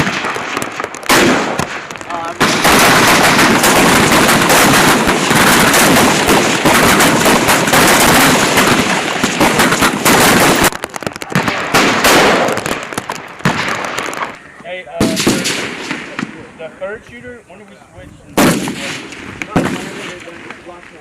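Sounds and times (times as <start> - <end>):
rifles firing: 0.0 - 14.4, 15.0 - 16.4, 18.4 - 20.9.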